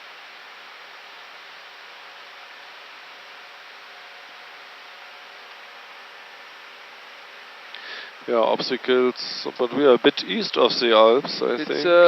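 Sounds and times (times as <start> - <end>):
airflow and air-conditioning hiss: 0.0 - 12.0
faint steady hum: 0.0 - 12.0.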